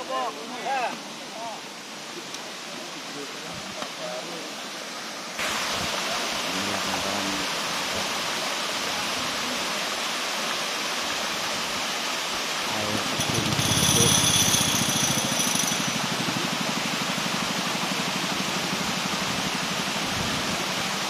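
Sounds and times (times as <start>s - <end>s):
waterfall and river rushing: 0.0s - 13.3s, 14.1s - 21.0s.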